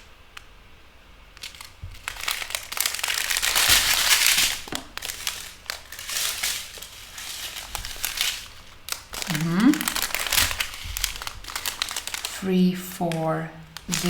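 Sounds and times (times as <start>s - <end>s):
plastic bags crinkling: 1.2s - 14.0s.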